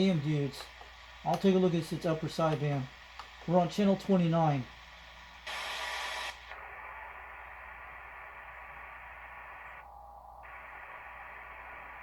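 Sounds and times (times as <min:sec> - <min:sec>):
burst of static: 0:00.0 - 0:12.0
radio receiver hiss: 0:00.0 - 0:12.0.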